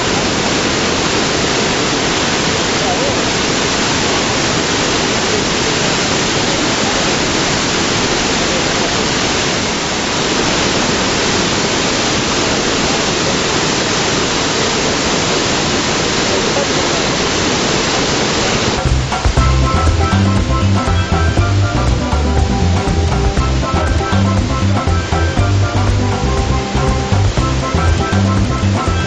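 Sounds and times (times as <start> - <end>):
heavy waterfall rushing: 0.0 - 29.0.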